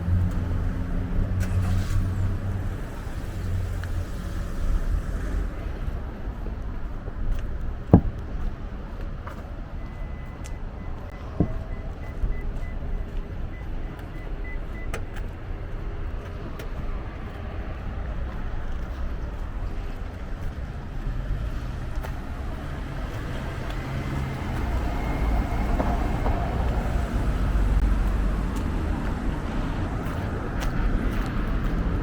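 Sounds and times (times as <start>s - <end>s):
road vehicle engine and tyres: 0.0s - 32.0s.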